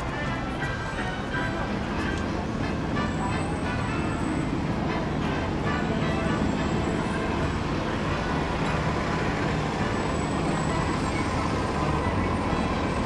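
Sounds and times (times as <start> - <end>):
engines and traffic rumble: 0.0 - 13.0.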